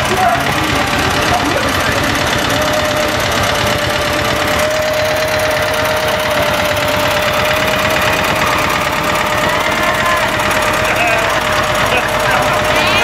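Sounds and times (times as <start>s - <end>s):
steady held tone: 0.0s - 13.0s
tractor engine chugging: 0.0s - 13.0s.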